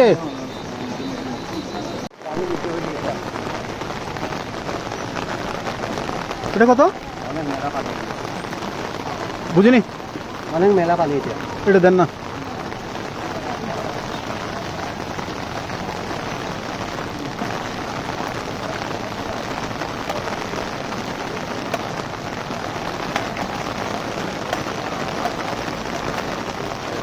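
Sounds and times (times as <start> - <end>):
heavy rain: 0.0 - 27.0
raindrops pattering on umbrella: 0.0 - 27.0.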